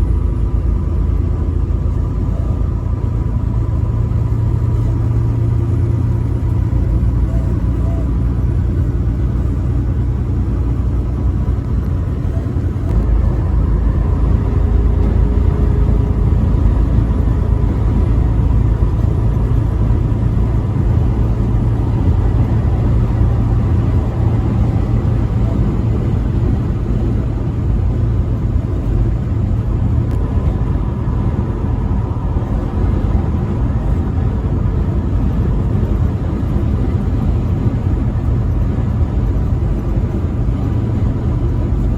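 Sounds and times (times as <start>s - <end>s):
truck engine and road rumble: 0.0s - 41.9s.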